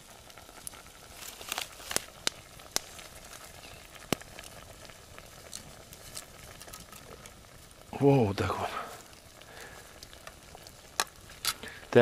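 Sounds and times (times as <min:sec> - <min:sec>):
garlic sizzling in butter: 0:00.0 - 0:12.0
sharp pops and crackles: 0:00.0 - 0:12.0.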